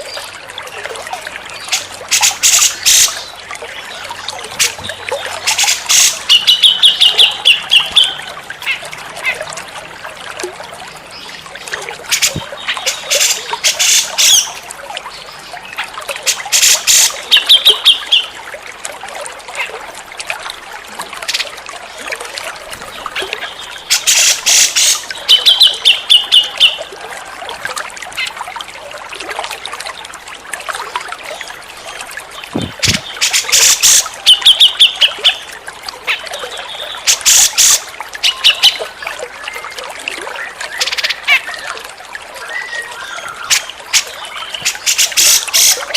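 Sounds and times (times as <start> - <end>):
water trickling: 0.0 - 45.9.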